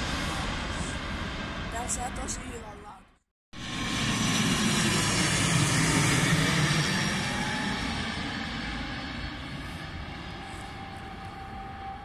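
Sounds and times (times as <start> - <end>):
turboprop airliner droning overhead: 0.0 - 12.0.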